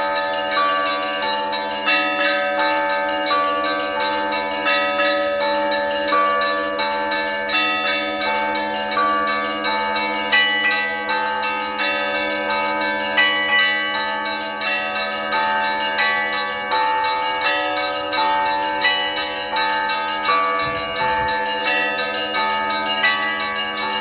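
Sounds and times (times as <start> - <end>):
church bells ringing: 0.0 - 24.0
deep bell hum: 3.1 - 24.0.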